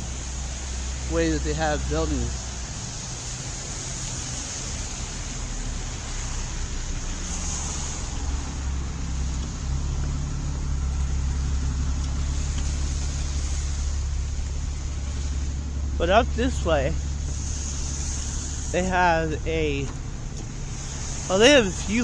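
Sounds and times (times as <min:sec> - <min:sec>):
cars passing on wet road: 0:00.0 - 0:22.0.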